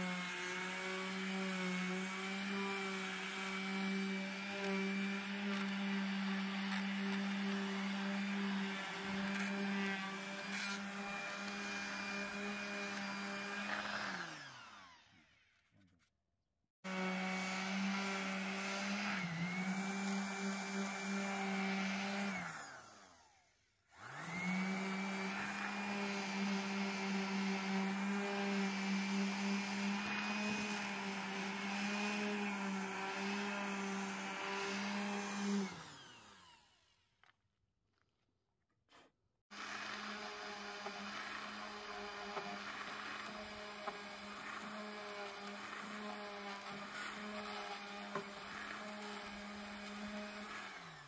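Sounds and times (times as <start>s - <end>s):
electric sander motor hum: 0.0s - 15.4s, 16.9s - 37.0s, 39.6s - 51.0s.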